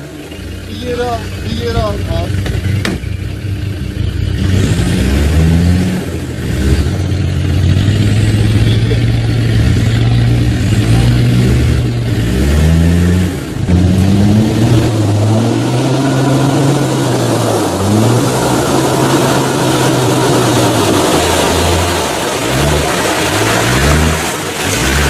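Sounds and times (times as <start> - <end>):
off-road engine revving: 0.0 - 25.0.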